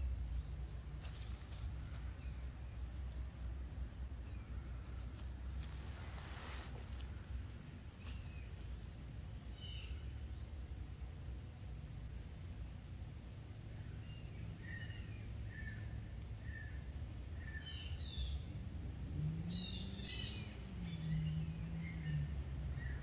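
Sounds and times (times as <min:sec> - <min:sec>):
low hum: 0:00.0 - 0:19.8
low outdoor rumble: 0:00.0 - 0:23.0
small birds chirping: 0:00.0 - 0:23.0.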